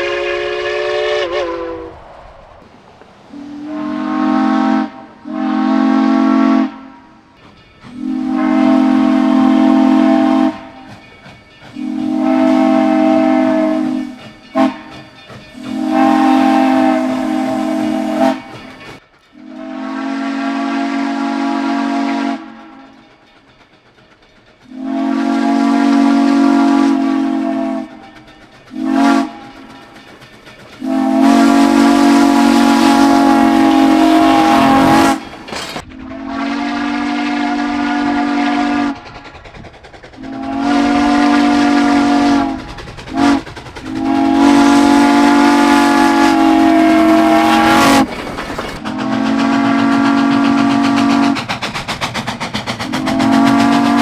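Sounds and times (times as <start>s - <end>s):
steam locomotive chime whistle: 0.0s - 2.0s, 3.3s - 39.2s, 40.2s - 51.5s, 52.9s - 54.0s
steam hissing: 0.0s - 54.0s.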